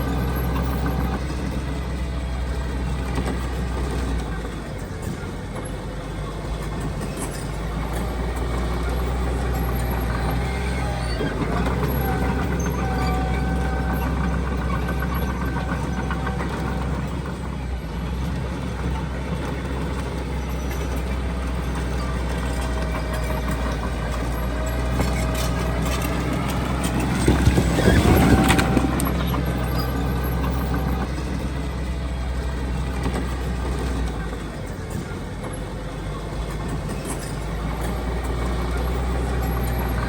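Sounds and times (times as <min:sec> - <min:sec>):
diesel machinery engine drone: 0:00.0 - 0:40.0
rattling noise: 0:00.0 - 0:40.0.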